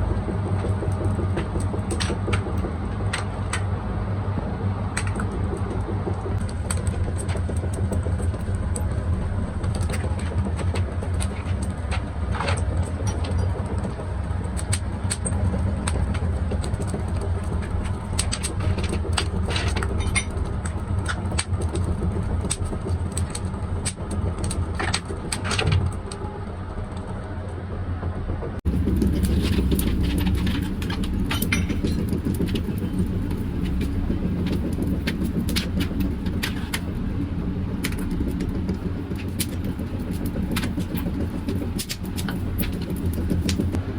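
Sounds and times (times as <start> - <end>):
machinery humming: 0.0 - 43.9.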